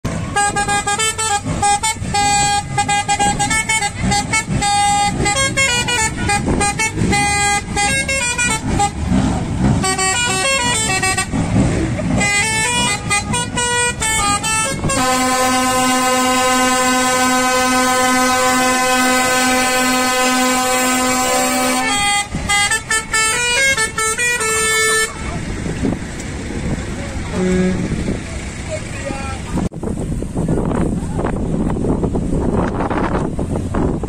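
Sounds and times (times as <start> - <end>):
musical air horn on a lorry: 0.1 - 26.0, 26.6 - 28.2.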